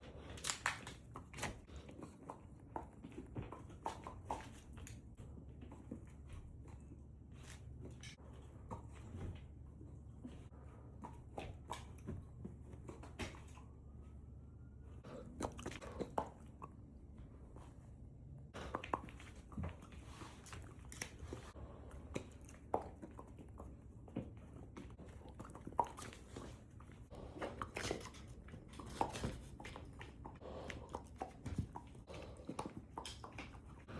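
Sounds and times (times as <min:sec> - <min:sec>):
wet chewing and smacking: 0:00.0 - 0:14.2, 0:15.0 - 0:33.9.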